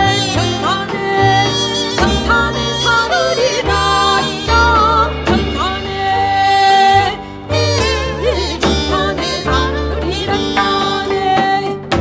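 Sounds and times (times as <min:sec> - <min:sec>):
bamboo flute melody: 0:00.0 - 0:11.4
double bass: 0:00.0 - 0:12.0
piano: 0:00.0 - 0:12.0.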